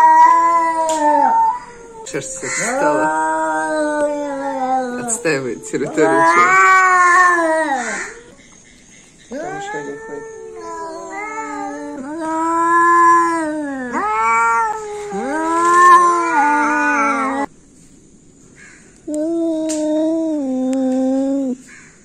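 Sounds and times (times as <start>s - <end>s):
cats yowling: 0.0s - 8.6s, 9.3s - 17.5s, 19.1s - 21.7s.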